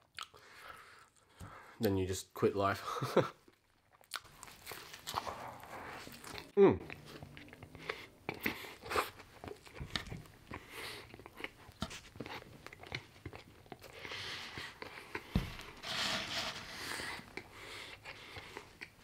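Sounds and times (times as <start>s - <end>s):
person chewing with crunches: 0.0s - 1.4s, 3.4s - 19.0s.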